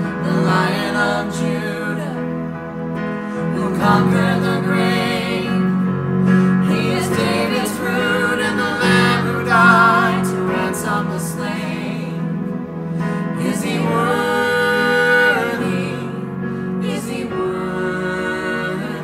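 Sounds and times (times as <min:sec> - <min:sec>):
people singing in harmony: 0:00.0 - 0:19.0.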